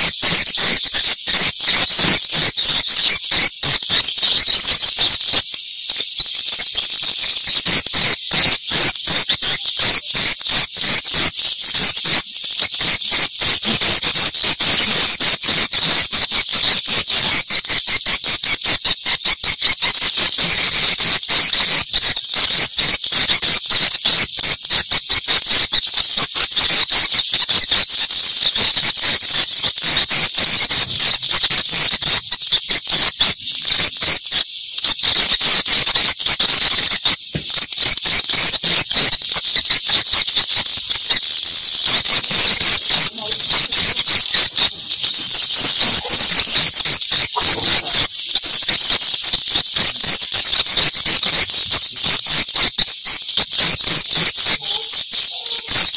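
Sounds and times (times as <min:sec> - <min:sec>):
swiftlets twittering: 0:00.0 - 0:55.9.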